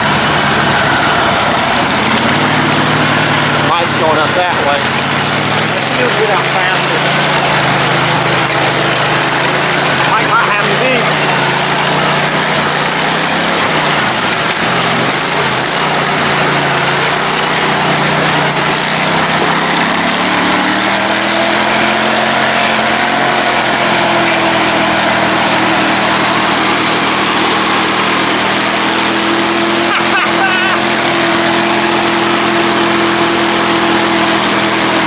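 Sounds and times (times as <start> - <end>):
lawn tractor engine running hard: 0.0 - 35.0.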